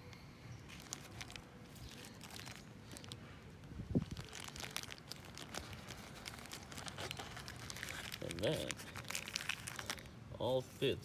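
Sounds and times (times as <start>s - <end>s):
plastic packaging crinkling: 0.6s - 3.3s, 3.9s - 10.1s.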